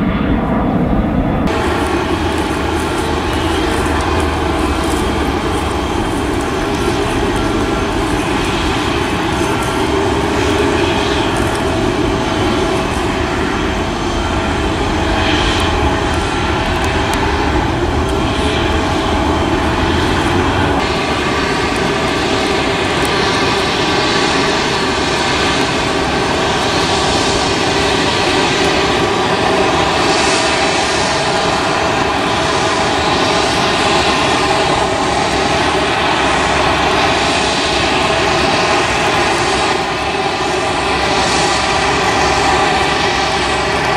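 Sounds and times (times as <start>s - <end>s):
jet aircraft rumble and whine: 0.0s - 43.9s.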